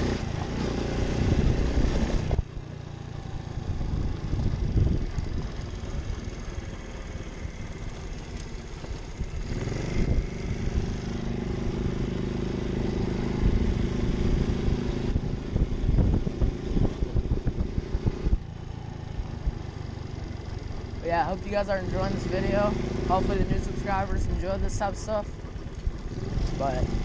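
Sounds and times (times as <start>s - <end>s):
pit bike engine revving: 0.0s - 2.6s, 3.4s - 27.0s.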